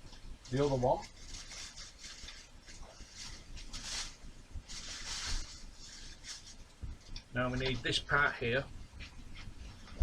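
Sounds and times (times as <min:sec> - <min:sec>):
soft rustling bursts: 0:00.0 - 0:10.0.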